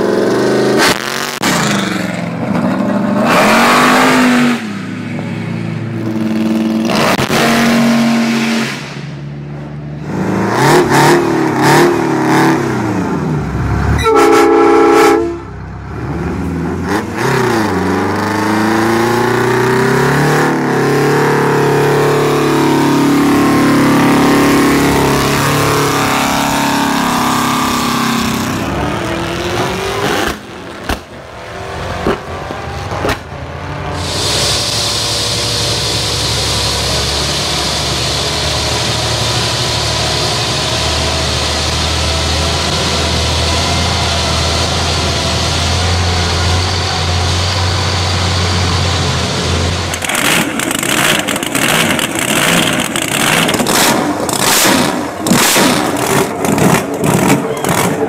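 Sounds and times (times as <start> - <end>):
diesel engine revving: 0.0 - 58.0
diesel engine running steadily: 0.0 - 58.0.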